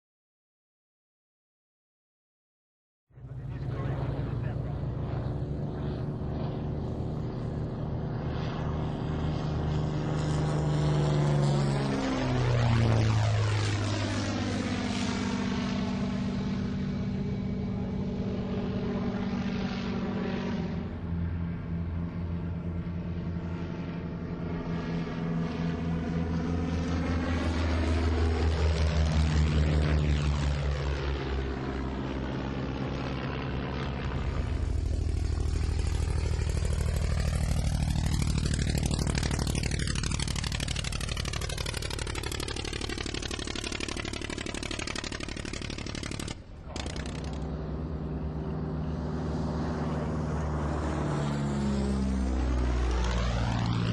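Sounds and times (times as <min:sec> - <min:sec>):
propeller aircraft flying past: 0:03.2 - 0:53.9.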